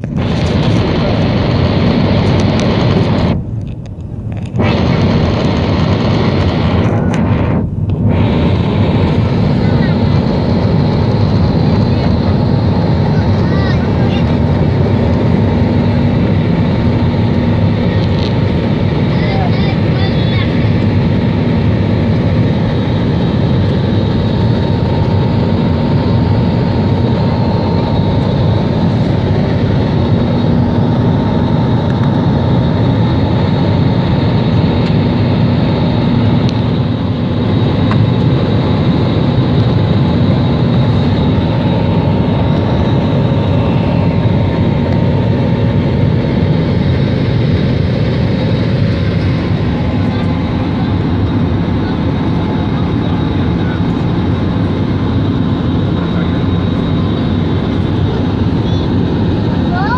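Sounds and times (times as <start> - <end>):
airplane engines roaring at takeoff: 0.0 - 59.9
faint whine: 0.0 - 59.9.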